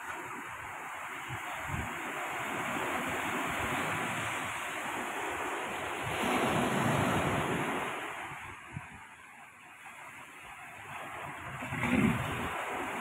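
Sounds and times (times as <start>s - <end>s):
surf breaking on beach: 0.0s - 9.2s, 10.0s - 13.0s
wind buffeting microphone: 0.1s - 9.2s, 10.7s - 13.0s.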